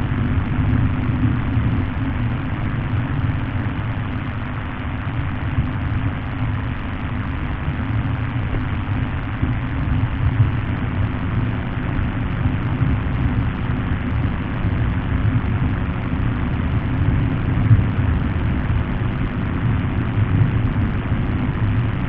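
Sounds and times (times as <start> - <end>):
low droning hum: 0.0 - 22.0.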